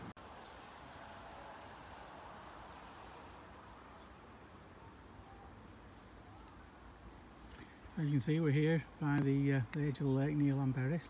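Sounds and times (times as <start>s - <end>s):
outdoor wet weather noise: 0.0s - 11.0s.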